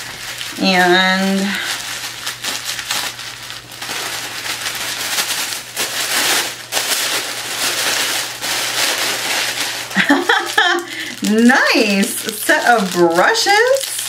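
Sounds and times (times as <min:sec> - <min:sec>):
wrapping crinkling: 0:00.0 - 0:14.0.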